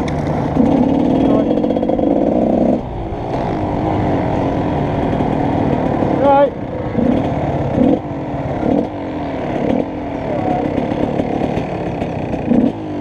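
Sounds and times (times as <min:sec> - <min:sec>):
dirt bike engine blipping: 0:00.0 - 0:13.0.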